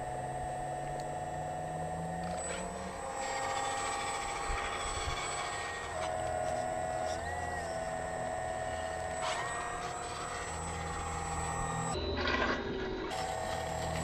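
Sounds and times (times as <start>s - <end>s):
hydraulic pump whining: 0.0s - 14.0s.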